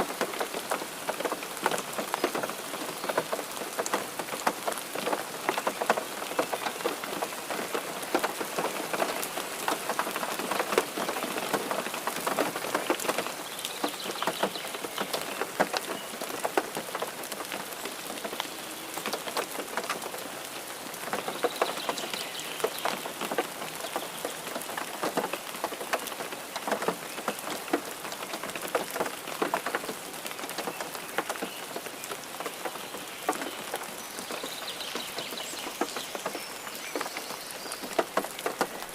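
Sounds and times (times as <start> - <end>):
continuous rain hiss: 0.0 - 38.9
rain drops pattering: 0.0 - 38.9.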